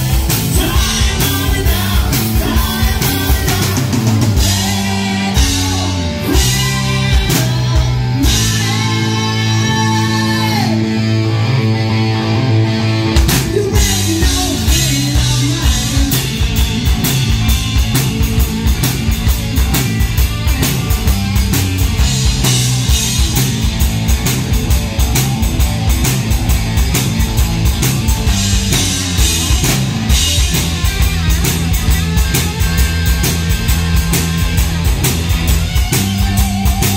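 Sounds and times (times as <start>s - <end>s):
fast driving drum beat: 0.0s - 9.6s, 13.2s - 36.9s
live rock band playing: 0.0s - 36.9s.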